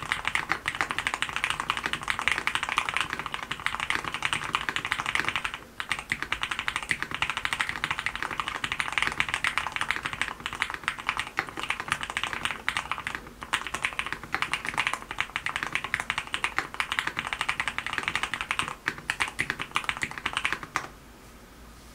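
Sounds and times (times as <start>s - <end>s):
mechanical keyboard typing: 0.0s - 20.9s.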